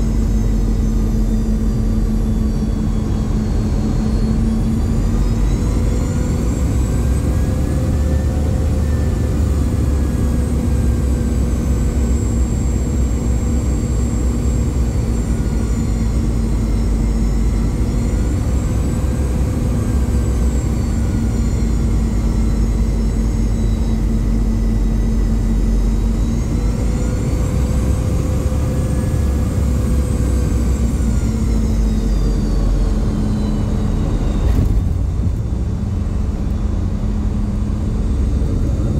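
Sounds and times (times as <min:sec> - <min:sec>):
jet engine rumble and whine: 0:00.0 - 0:38.9.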